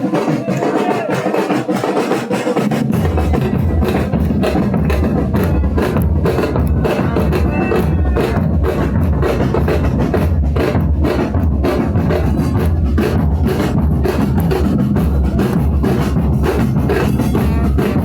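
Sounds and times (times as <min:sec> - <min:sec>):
drums beating a steady rhythm: 0:00.0 - 0:18.0
music: 0:00.0 - 0:18.0.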